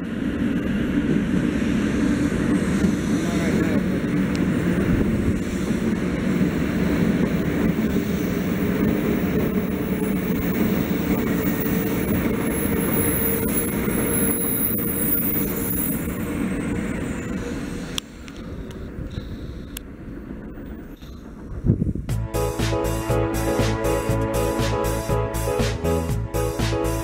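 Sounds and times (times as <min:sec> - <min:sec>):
high whine: 0:00.0 - 0:27.0
train rumbling: 0:00.0 - 0:27.0.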